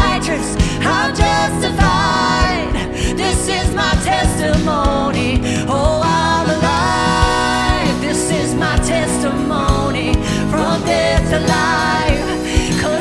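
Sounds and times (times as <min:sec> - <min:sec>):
drum beat: 0:00.0 - 0:13.0
worship band playing: 0:00.0 - 0:13.0.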